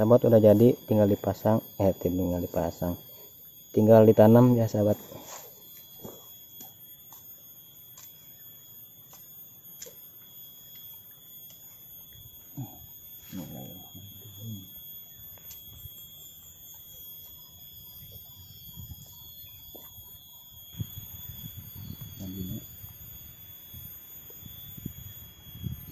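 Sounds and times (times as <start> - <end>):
insects droning: 0.0 - 25.9.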